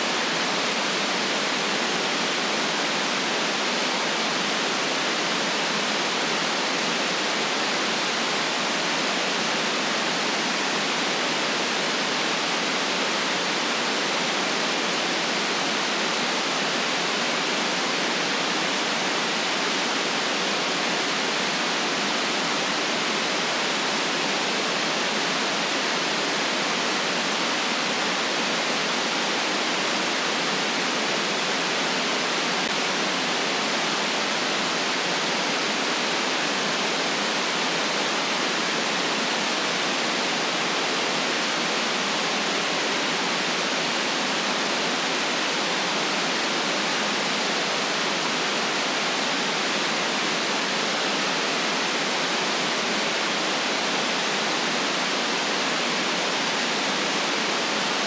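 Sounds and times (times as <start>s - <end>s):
electronic white noise hiss: 0.0s - 58.0s.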